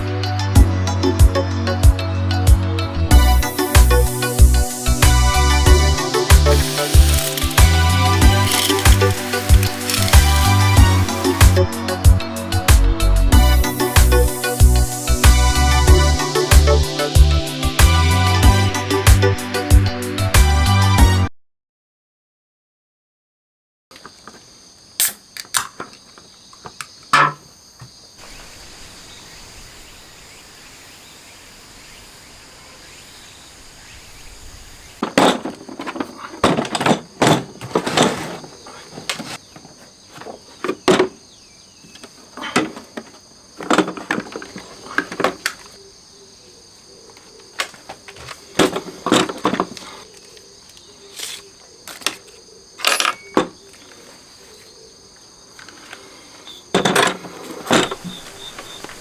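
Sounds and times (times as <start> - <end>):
insects chorus: 3.1 - 12.0, 13.3 - 18.3, 23.9 - 59.0.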